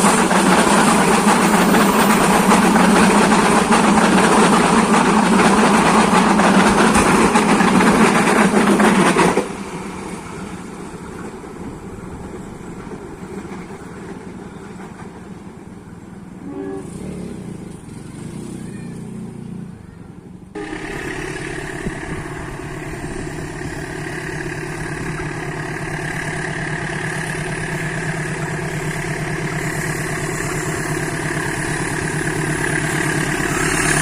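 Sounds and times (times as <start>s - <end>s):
train passing close by: 0.0s - 18.5s, 20.5s - 34.0s.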